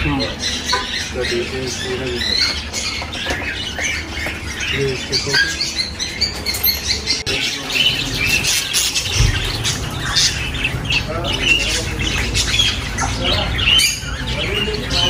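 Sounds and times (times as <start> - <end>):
small parrots chirping: 0.0 - 15.0.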